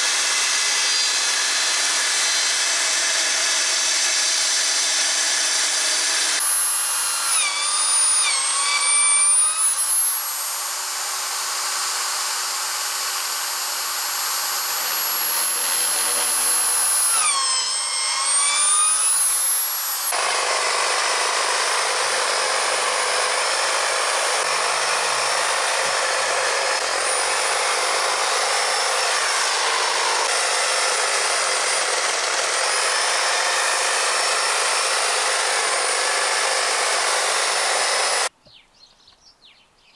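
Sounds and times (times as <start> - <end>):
electric drill boring into wood: 0.0 - 38.3
power tool noise: 0.0 - 38.3.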